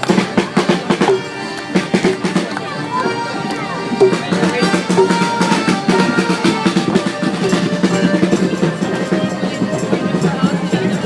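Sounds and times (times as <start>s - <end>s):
drums and percussion: 0.0s - 11.0s
street band playing: 0.0s - 11.0s.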